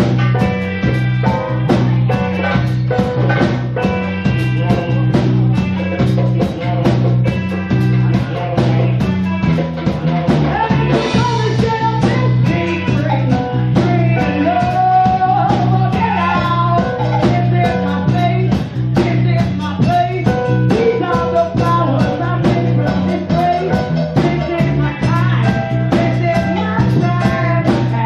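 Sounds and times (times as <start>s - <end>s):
bass line: 0.0s - 28.0s
drum kit beats: 0.0s - 28.0s
electric guitar: 0.0s - 28.0s
woman singing: 0.4s - 28.0s.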